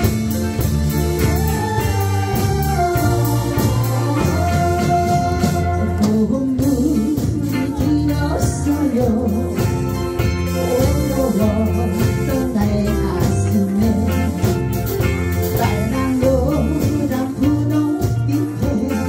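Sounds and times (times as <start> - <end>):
bass guitar: 0.0 - 19.0
drum kit: 0.0 - 19.0
electric guitar: 0.0 - 19.0
woman singing: 1.2 - 19.0.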